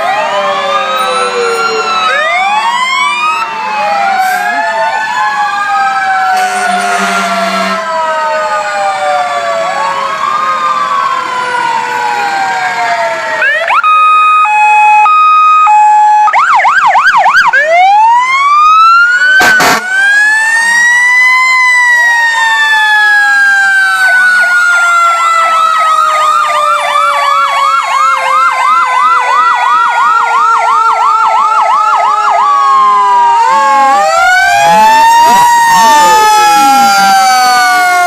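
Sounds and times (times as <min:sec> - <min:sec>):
emergency vehicle sirens: 0:00.0 - 0:38.0.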